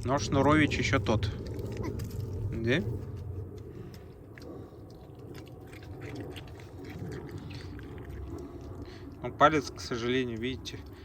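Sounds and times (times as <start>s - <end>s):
fox chewing food: 0.0s - 11.0s.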